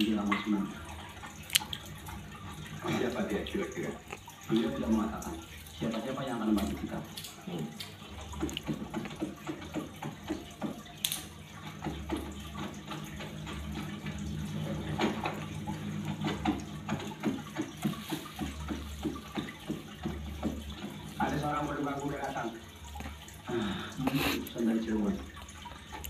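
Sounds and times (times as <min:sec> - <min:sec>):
water running and splashing: 0:00.0 - 0:26.0
water trickles and drips: 0:00.0 - 0:26.0.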